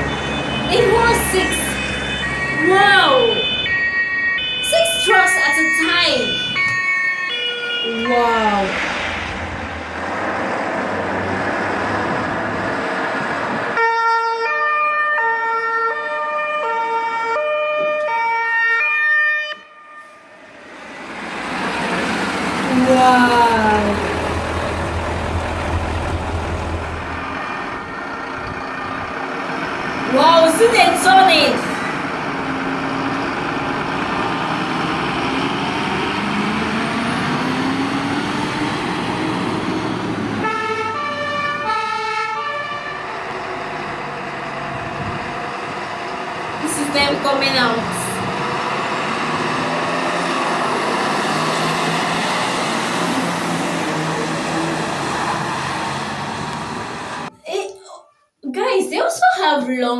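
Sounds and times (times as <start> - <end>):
fire truck engine rumble: 0.0 - 57.3
road noise: 0.0 - 57.6.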